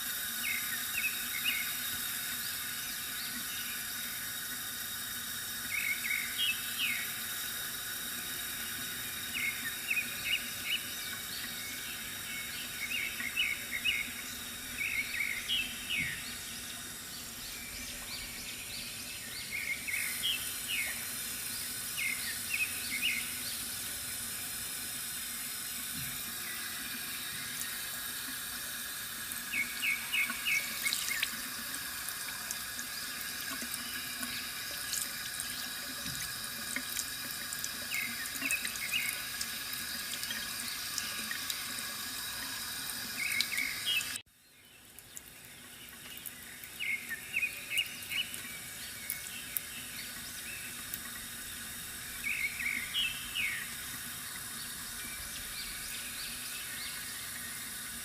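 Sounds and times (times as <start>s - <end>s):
water trickling from fountain: 0.0s - 58.0s
small birds chirping: 5.6s - 7.2s, 8.5s - 28.4s, 29.4s - 31.8s, 32.8s - 41.6s, 42.2s - 58.0s.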